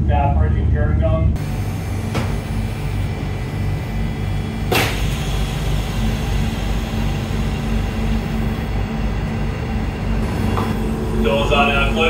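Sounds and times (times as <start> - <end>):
diesel engine idling hum: 0.8 - 12.0.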